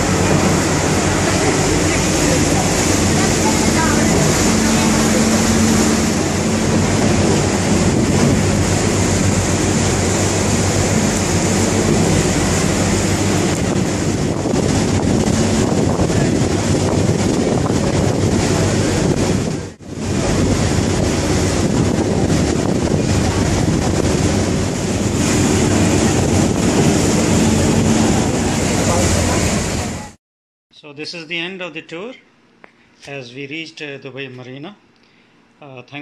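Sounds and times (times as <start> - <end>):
wind buffeting microphone: 0.0 - 30.1
ferry engines humming: 0.0 - 30.2
water rushing past hull: 0.0 - 30.2.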